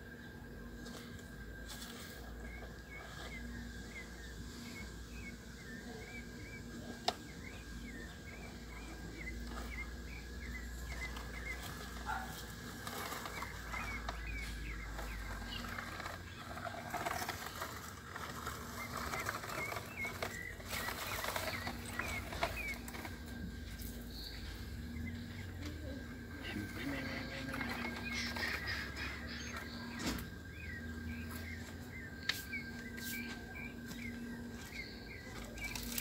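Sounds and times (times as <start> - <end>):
small birds chirping: 0.0 - 36.0
toy trucks scraping in dirt: 1.0 - 36.0.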